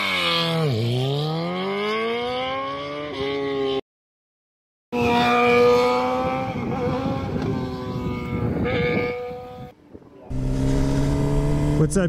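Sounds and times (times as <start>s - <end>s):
sportbike engine at high revs: 0.0s - 3.8s, 5.0s - 12.0s.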